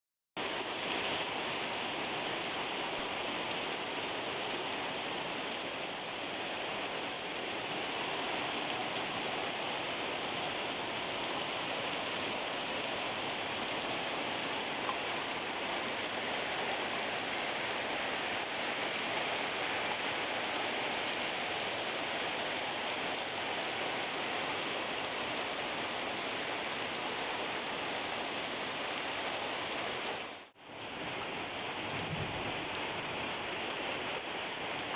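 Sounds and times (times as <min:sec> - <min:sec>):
heavy rain pouring: 0:00.4 - 0:34.9.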